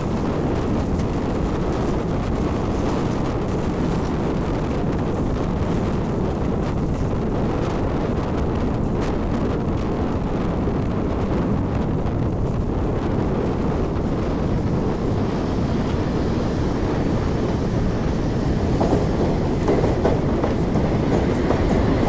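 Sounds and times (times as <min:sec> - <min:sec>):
train wheels rumbling on rails: 0:00.0 - 0:22.0
wind across microphone: 0:00.0 - 0:22.0.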